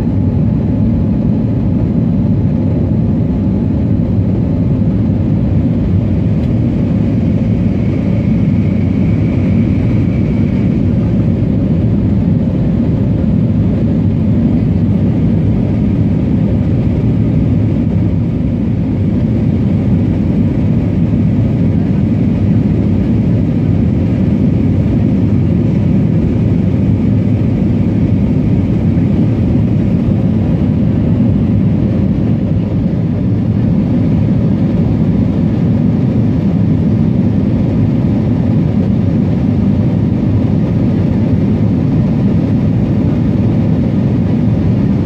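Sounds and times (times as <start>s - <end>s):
jet engine rumble in cabin: 0.0s - 45.0s.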